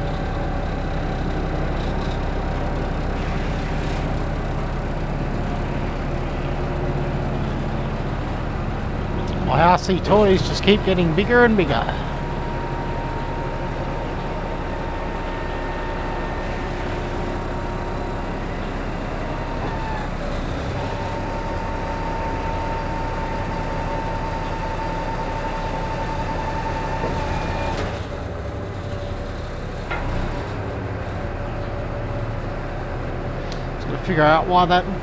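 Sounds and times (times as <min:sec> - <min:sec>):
truck engine running: 0:00.0 - 0:35.0
high hydraulic whine: 0:01.9 - 0:32.0.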